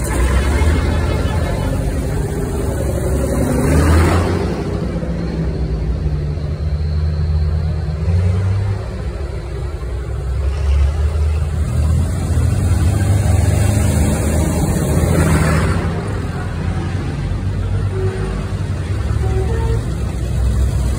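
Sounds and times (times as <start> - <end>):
tractor engines driving past: 0.0 - 20.9.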